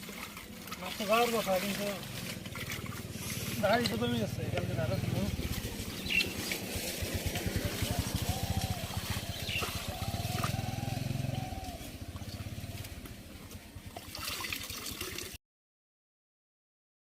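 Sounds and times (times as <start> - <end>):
small engine puttering: 0.0 - 14.7.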